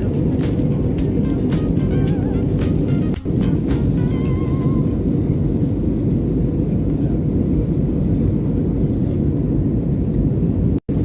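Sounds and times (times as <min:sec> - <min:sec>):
aircraft engine cabin rumble: 0:00.0 - 0:11.0.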